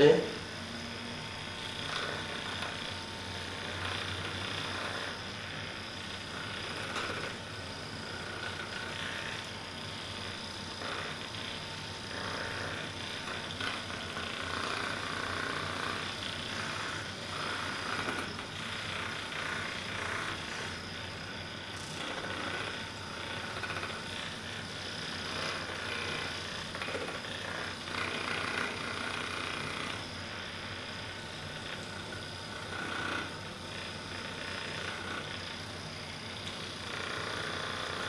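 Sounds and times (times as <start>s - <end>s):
motor buzz: 0.0s - 38.0s.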